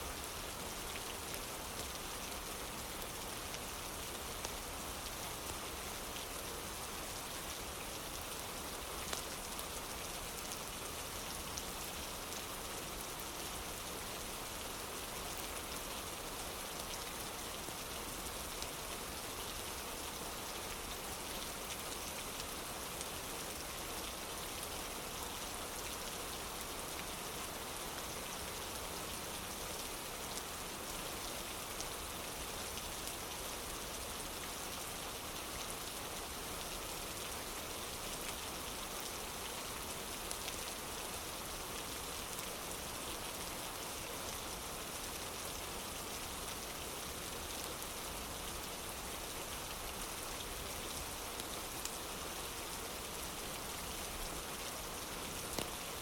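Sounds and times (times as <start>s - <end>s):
rain on a wooden porch: 0.0s - 56.0s.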